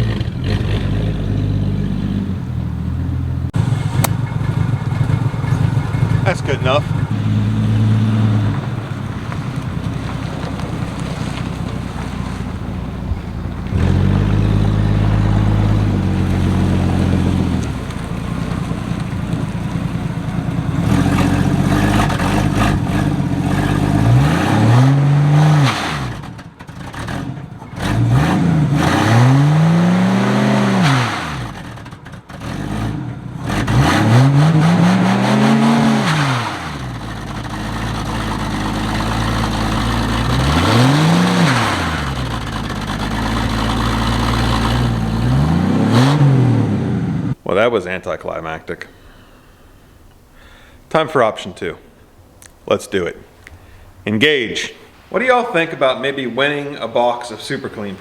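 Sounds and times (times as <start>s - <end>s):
car engine revving: 0.0s - 47.4s.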